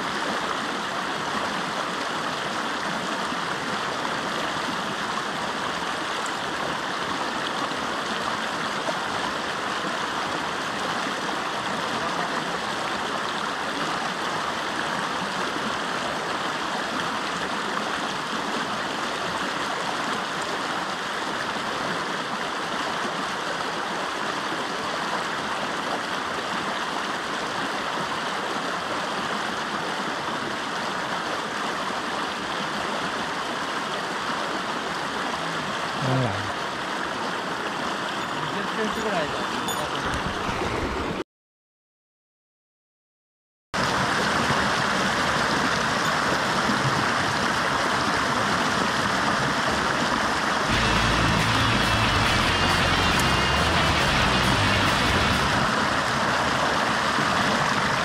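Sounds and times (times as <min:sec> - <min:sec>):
stream rushing over rocks: 0:00.0 - 0:41.2, 0:43.8 - 0:58.0.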